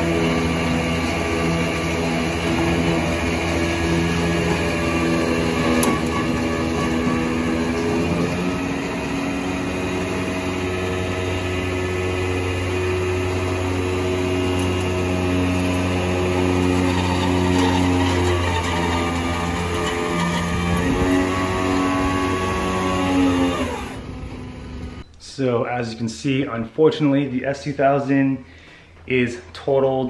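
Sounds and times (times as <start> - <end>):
truck engine and winch drone: 0.0 - 25.0.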